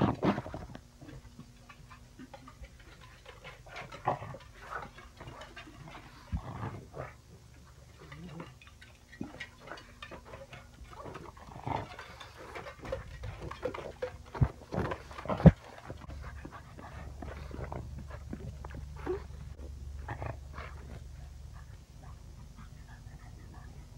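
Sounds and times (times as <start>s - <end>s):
dogs snuffling and panting: 0.0s - 23.9s.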